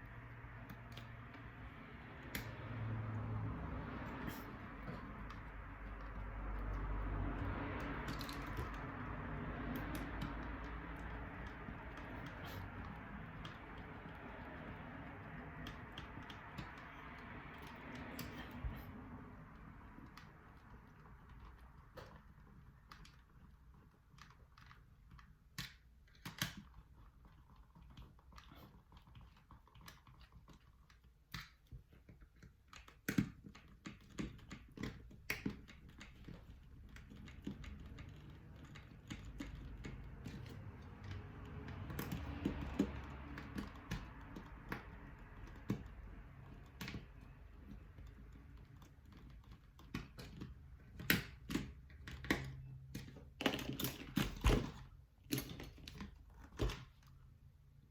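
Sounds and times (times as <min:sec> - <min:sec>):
clicks and taps of small parts: 0:00.0 - 0:57.2.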